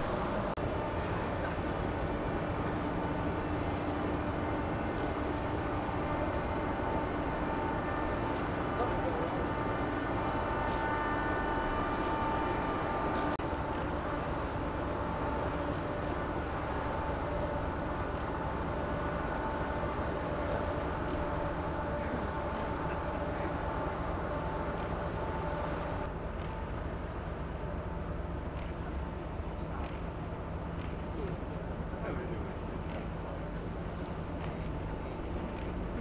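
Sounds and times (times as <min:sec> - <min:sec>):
motorboat engine hum: 0:00.0 - 0:36.0.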